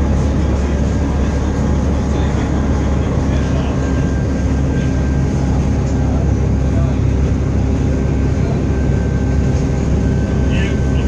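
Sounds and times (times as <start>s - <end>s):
railway car rumbling: 0.0s - 11.0s.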